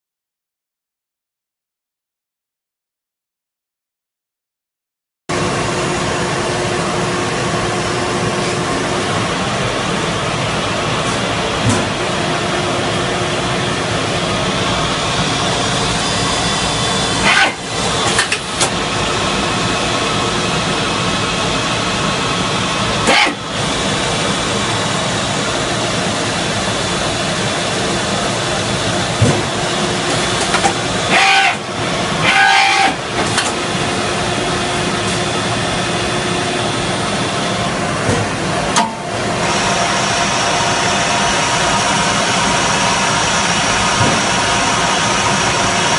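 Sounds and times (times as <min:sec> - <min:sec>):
lathe running with whining tones: 0:05.3 - 0:45.9.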